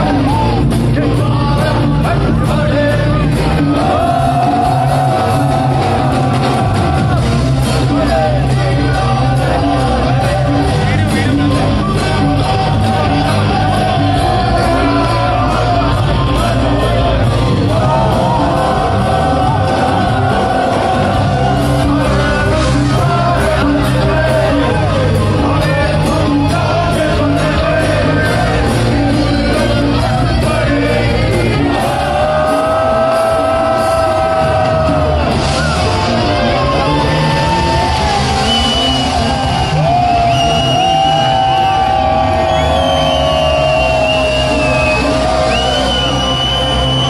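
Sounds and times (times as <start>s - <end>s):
man singing: 0.0s - 38.5s
crowd shouting and whooping: 0.0s - 47.0s
live band playing amplified music: 0.0s - 47.0s.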